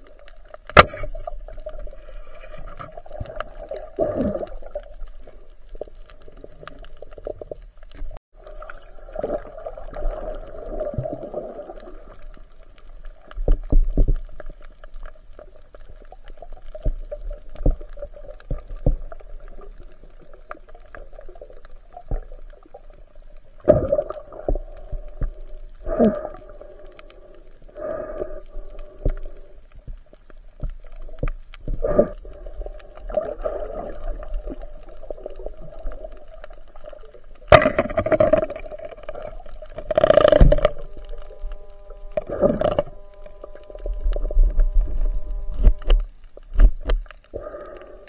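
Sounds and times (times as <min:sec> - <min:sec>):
water and bubbles gurgling: 0:00.0 - 0:48.0
muffled underwater hum: 0:09.4 - 0:48.0.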